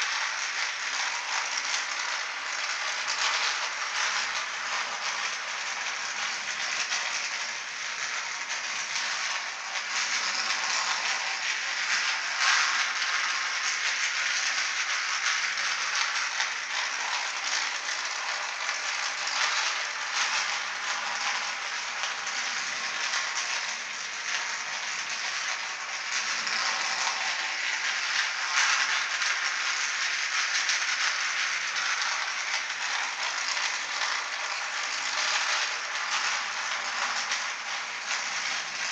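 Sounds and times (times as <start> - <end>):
toy train rattling on track: 0.0 - 38.9.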